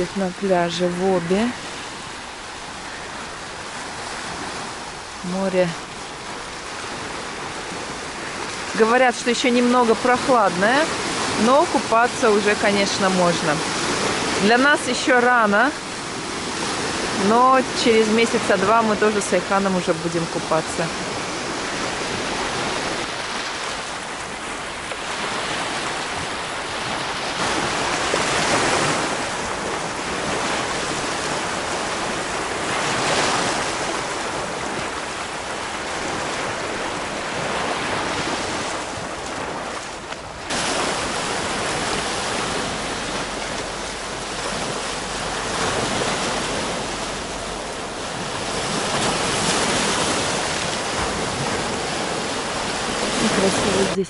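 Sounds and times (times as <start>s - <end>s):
waves breaking on a shingle beach: 0.0s - 54.0s.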